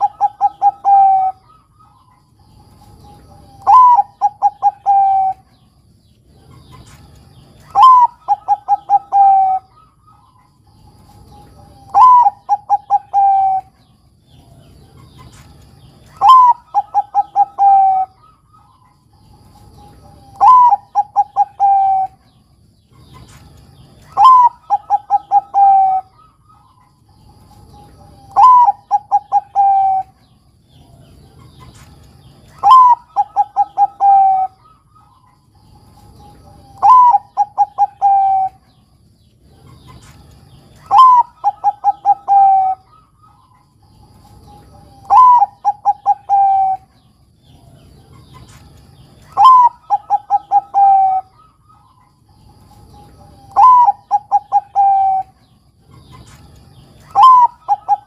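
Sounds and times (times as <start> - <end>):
dove cooing: 0.0 - 5.7, 6.3 - 38.8, 39.4 - 58.0.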